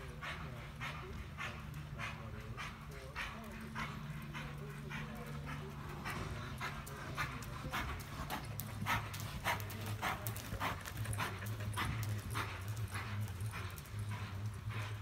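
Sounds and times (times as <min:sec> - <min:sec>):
horse hooves on soft dirt: 0:00.0 - 0:15.0.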